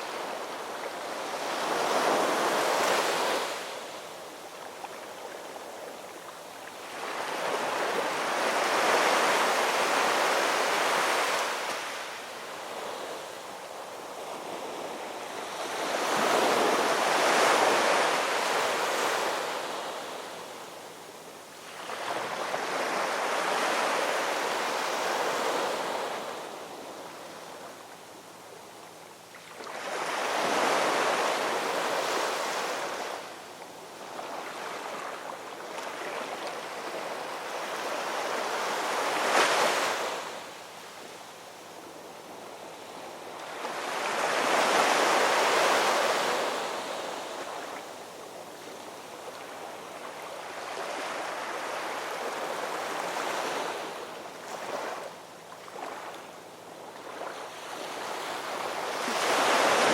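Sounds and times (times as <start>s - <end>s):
ocean waves washing onto shore: 0.0s - 28.0s, 29.3s - 59.9s.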